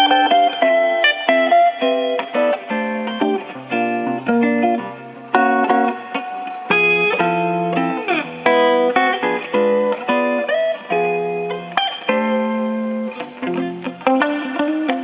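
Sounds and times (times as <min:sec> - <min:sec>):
guitar playing: 0:00.0 - 0:15.0.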